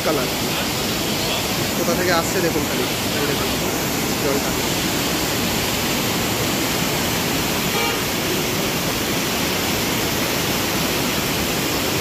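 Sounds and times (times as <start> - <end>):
stream rushing over weir: 0.0 - 12.0.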